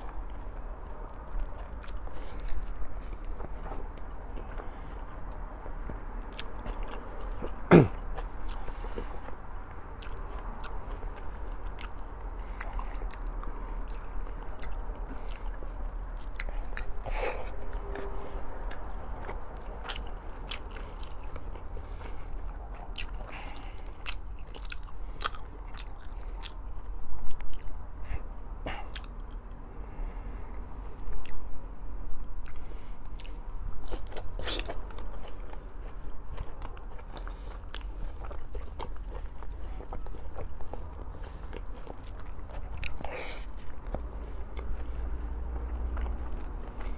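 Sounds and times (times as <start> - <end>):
person chewing food: 0.0 - 31.6, 32.3 - 46.9.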